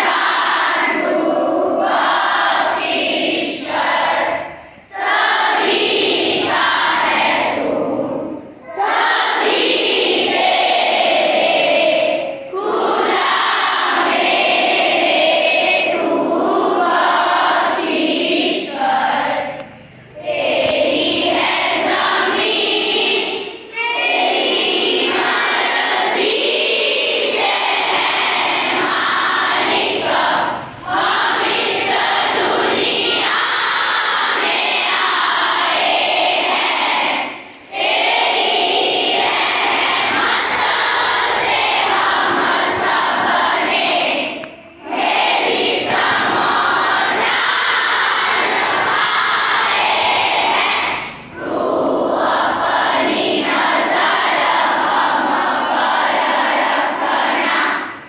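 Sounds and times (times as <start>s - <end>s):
students singing in unison: 0.0s - 58.0s.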